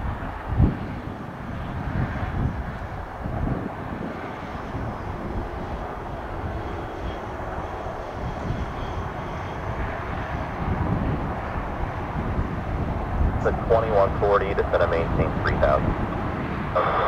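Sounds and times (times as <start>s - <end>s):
high turbine whine: 0.0s - 17.0s
jet engines roaring: 0.0s - 17.0s.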